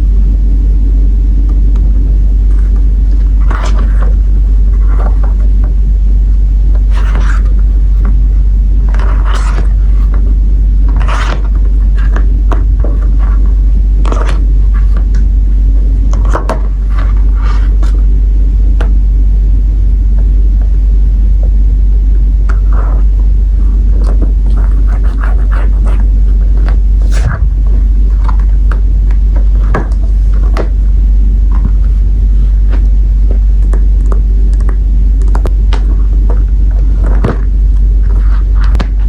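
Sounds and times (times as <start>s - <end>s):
loud low rumble: 0.0s - 39.0s.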